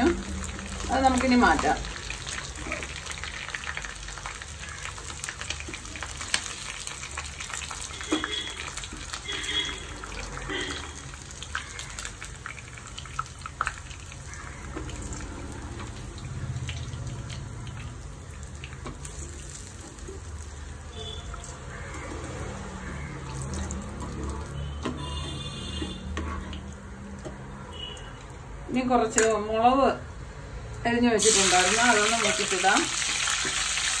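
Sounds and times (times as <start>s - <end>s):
chicken deep-frying in oil: 0.0s - 29.9s, 30.7s - 34.0s.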